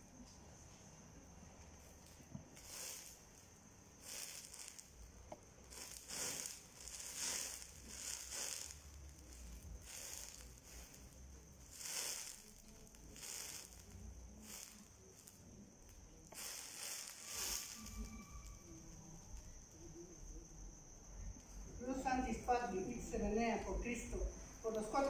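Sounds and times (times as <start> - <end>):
flames crackling and hissing: 0.0 - 25.0.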